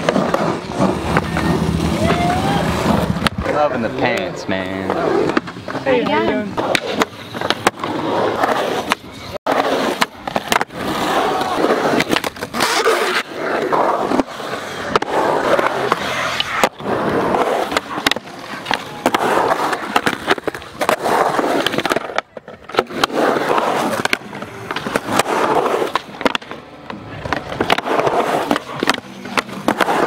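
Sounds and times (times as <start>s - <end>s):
skateboard clacking on ground: 0.0s - 30.0s
skateboard wheels rolling on concrete: 0.0s - 30.0s.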